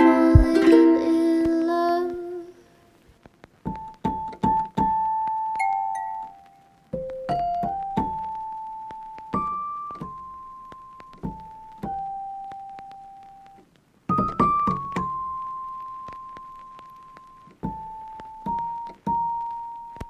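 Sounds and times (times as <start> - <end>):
slow piano-like keyboard melody: 0.0 - 1.9, 3.7 - 20.0.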